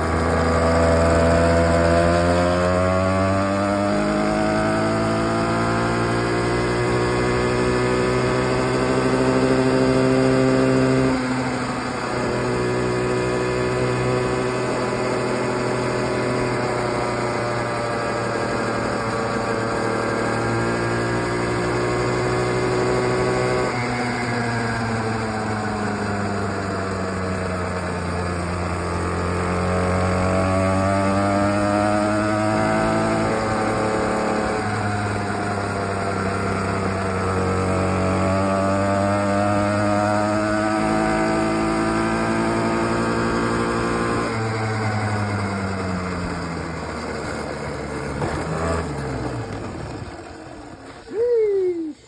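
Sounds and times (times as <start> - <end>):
two-stroke minibike engine revving: 0.0 - 52.0.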